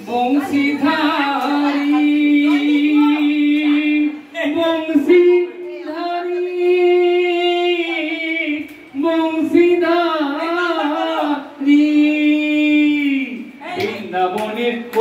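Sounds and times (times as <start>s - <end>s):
person singing into a microphone: 0.0s - 15.0s.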